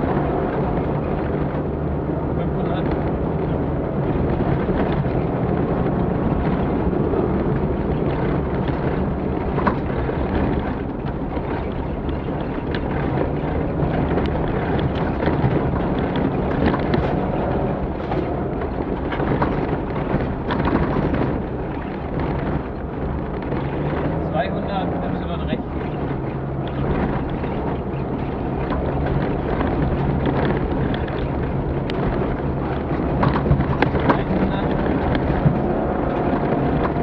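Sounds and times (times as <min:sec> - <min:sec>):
knocks and rattles: 0:00.0 - 0:37.0
vehicle engine running under load: 0:00.0 - 0:37.0.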